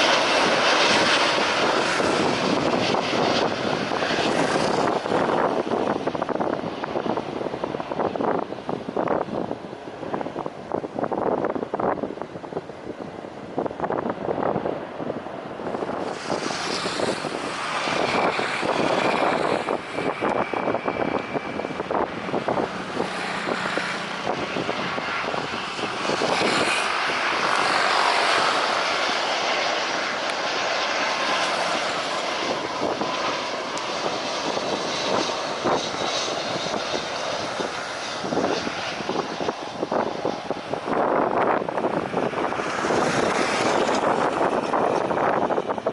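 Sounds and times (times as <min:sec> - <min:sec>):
jet engines whining: 0:00.0 - 0:45.9
wind buffeting microphone: 0:00.0 - 0:45.9.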